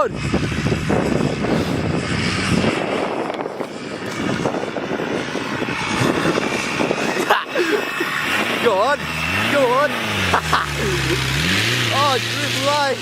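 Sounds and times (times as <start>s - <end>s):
vehicle engine working hard: 0.0s - 13.0s
dense gritty crackling: 0.1s - 13.0s.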